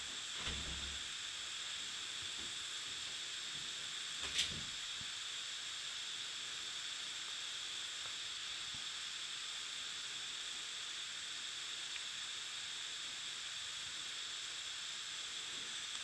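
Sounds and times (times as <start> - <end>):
recording hiss: 0.0 - 16.0.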